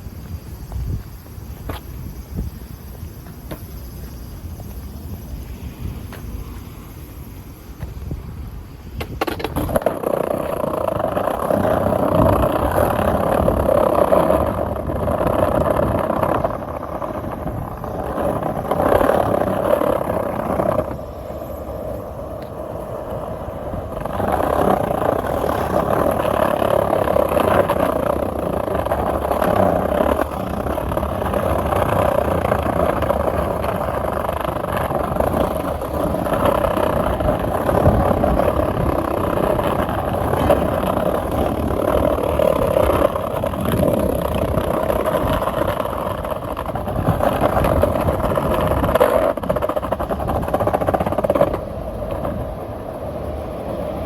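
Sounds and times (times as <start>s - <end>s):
wheels rolling on pavement: 0.0s - 54.0s.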